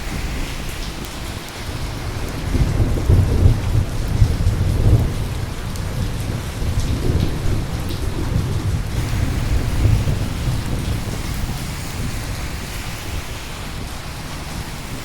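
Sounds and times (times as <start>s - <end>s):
rumble of thunder: 0.0s - 15.0s
steady rain: 0.0s - 15.0s.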